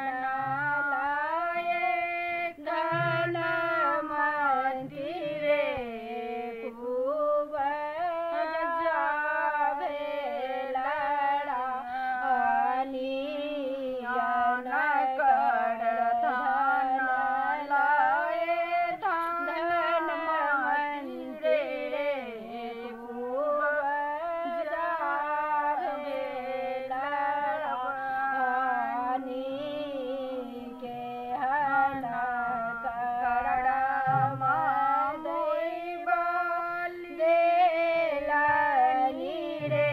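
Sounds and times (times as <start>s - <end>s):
two women singing: 0.0s - 39.9s.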